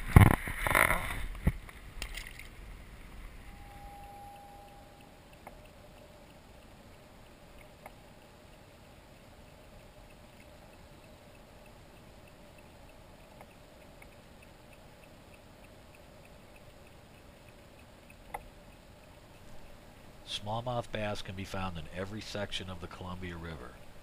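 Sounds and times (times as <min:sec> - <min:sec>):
faint clicks: 0:00.1 - 0:24.0.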